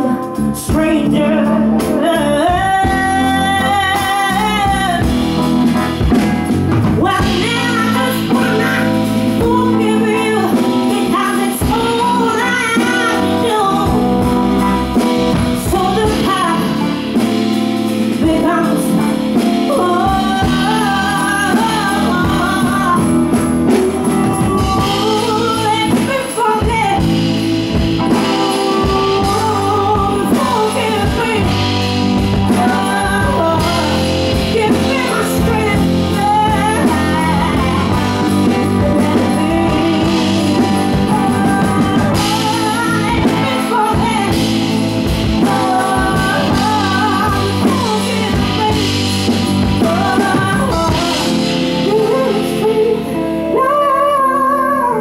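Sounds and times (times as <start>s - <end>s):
woman singing into microphone: 0.0s - 6.3s, 6.9s - 55.0s
live band with guitar: 0.0s - 55.0s.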